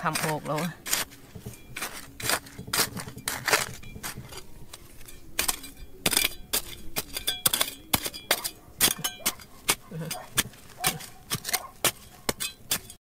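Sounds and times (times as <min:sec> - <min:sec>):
metal tool striking rock: 0:00.0 - 0:13.0.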